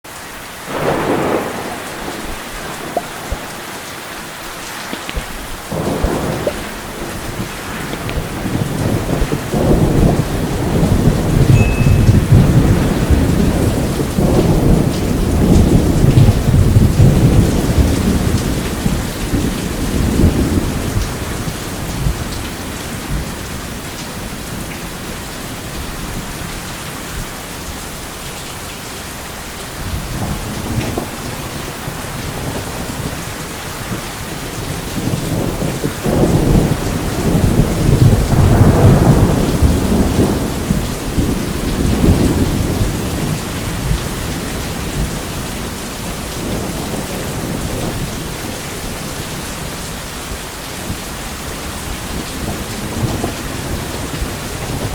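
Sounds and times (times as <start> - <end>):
heavy rain: 0.0 - 54.9
rolling thunder: 0.7 - 26.5, 29.8 - 49.7, 50.8 - 54.9.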